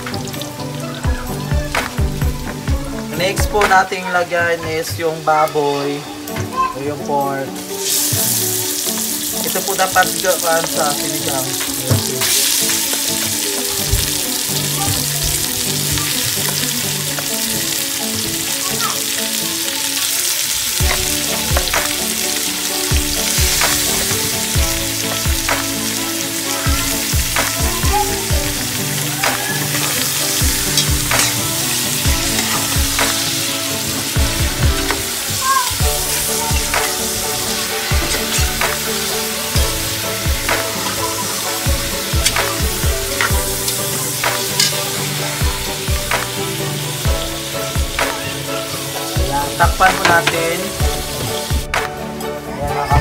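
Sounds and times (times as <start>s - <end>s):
meat sizzling in hot oil: 0.0s - 4.1s, 4.8s - 51.8s.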